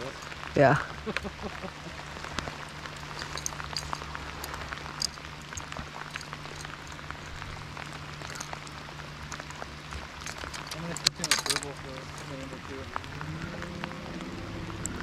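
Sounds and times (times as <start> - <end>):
rain falling on water: 0.0 - 15.0
raindrops ticking: 0.0 - 15.0
steady low hum: 0.0 - 15.0.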